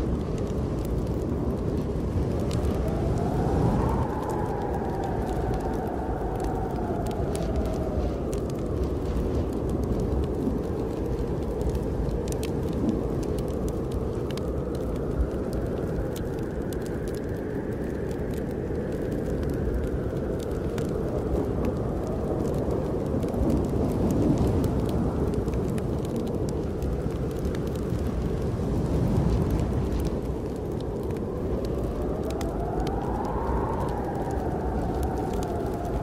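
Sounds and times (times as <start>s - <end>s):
wind howling in gusts: 0.0s - 36.0s
wood fire crackling: 0.0s - 36.0s.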